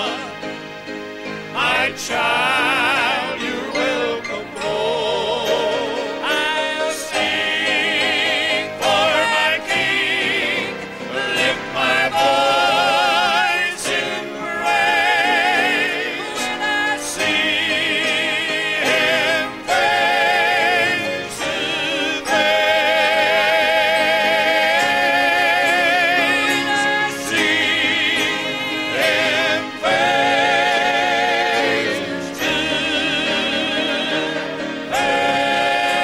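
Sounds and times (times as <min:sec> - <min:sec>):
male quartet singing in harmony: 0:00.0 - 0:36.0
piano accompaniment: 0:00.0 - 0:36.0.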